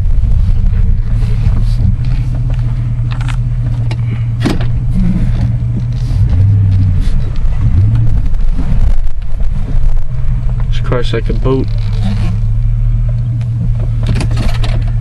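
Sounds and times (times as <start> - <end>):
car engine exhaust drone: 0.0 - 15.0.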